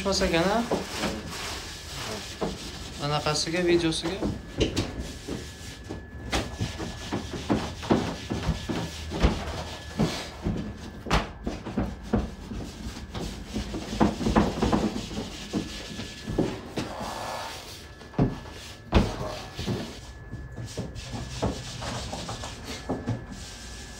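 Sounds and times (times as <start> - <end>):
faint high whine: 0.0 - 23.9.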